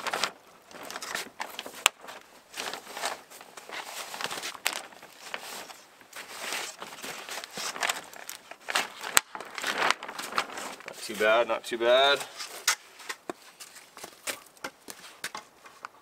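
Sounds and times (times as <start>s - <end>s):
plastic sheeting rustling: 0.0s - 15.7s.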